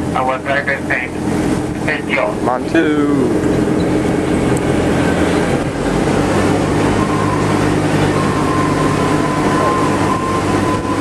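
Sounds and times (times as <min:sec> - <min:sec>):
rolling and wind noise: 0:00.0 - 0:11.0
thin steady whine: 0:00.0 - 0:11.0
tractor engine droning: 0:00.0 - 0:11.0.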